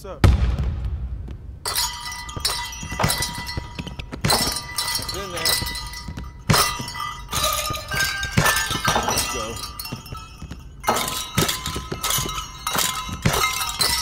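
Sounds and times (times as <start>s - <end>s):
basketballs clanging on hoop rims: 1.6s - 14.0s.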